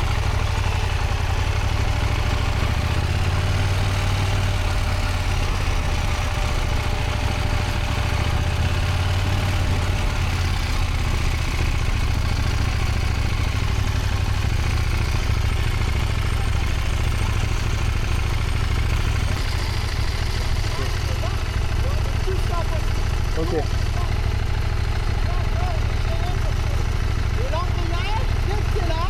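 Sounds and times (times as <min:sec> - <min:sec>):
motorcycle engine at low revs: 0:00.0 - 0:29.0.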